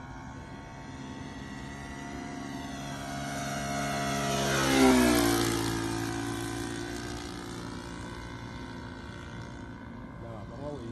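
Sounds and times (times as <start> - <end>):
model airplane engine flying past: 0.0 - 10.9.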